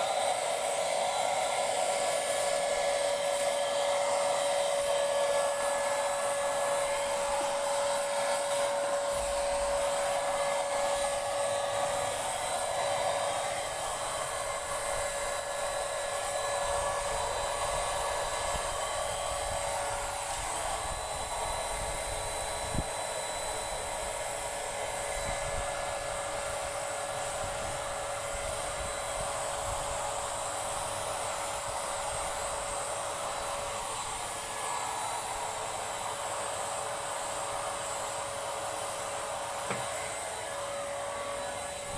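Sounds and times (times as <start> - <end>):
paint sprayer whining and hissing: 0.0 - 41.9.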